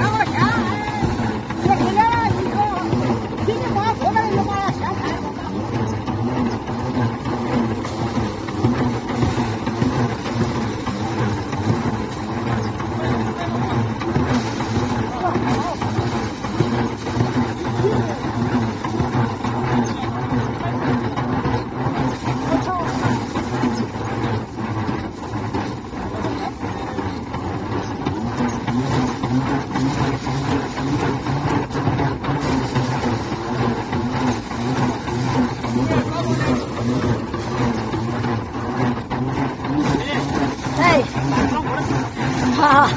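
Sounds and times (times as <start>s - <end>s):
thresher drum clattering: 0.0s - 42.9s.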